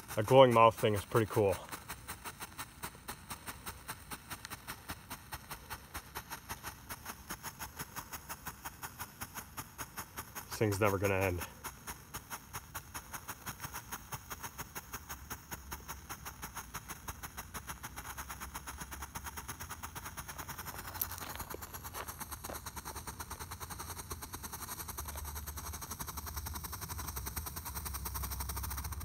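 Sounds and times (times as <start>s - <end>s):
firework fountain sputtering: 0.0s - 29.0s.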